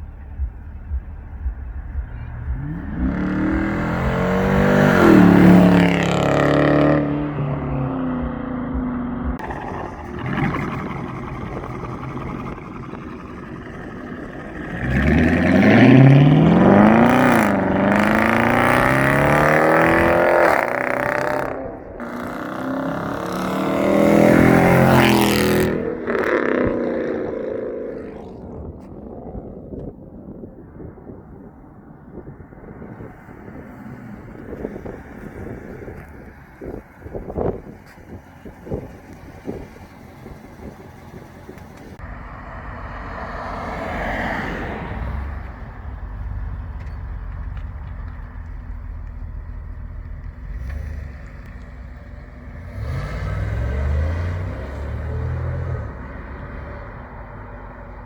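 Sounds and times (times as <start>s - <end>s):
car exhaust revving: 0.0s - 30.9s, 32.1s - 58.0s.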